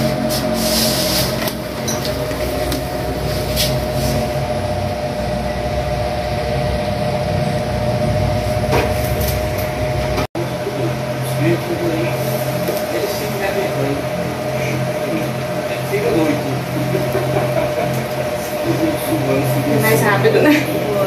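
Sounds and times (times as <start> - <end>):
mechanical hum with whine: 0.0 - 21.0.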